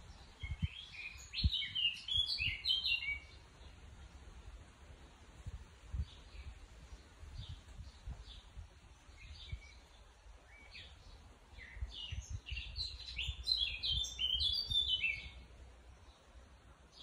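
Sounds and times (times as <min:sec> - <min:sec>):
low rumble on microphone: 0:00.0 - 0:02.4, 0:03.8 - 0:15.8
bird chirping: 0:00.0 - 0:04.2, 0:05.9 - 0:17.0.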